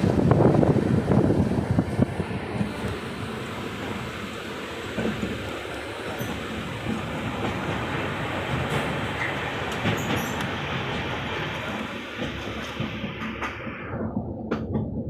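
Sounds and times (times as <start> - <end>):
rush of train wheels on rails: 0.0 - 15.0.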